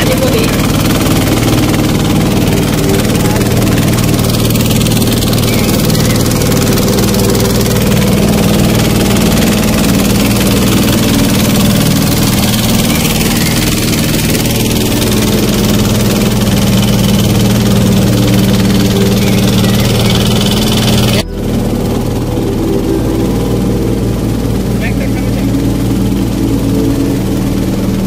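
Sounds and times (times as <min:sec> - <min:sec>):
motor boat engine droning: 0:00.0 - 0:28.0.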